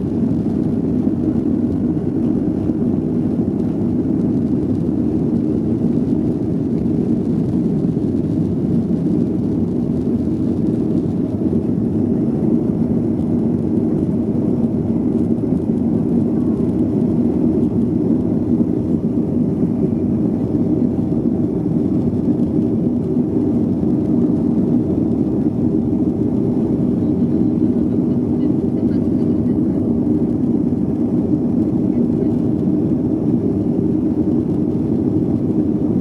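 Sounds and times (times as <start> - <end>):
jet engines roaring in cabin: 0.0 - 36.0.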